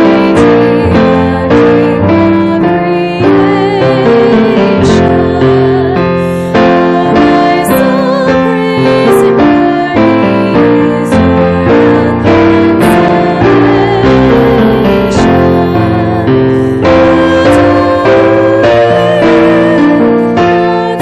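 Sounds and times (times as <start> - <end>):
hymn on piano: 0.0 - 21.0
person singing: 0.0 - 21.0.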